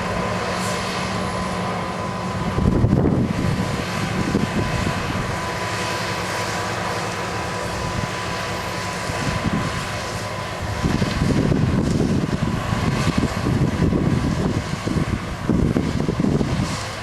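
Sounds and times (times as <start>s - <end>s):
wind buffeting microphone: 0.0s - 5.7s, 7.4s - 17.0s
heavy machinery engine running: 0.0s - 17.0s
high whine: 0.0s - 17.0s.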